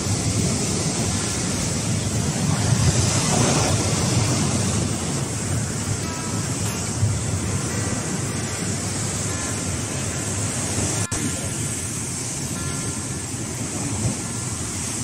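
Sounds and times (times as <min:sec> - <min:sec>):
ocean surf breaking on rocks: 0:00.0 - 0:15.0.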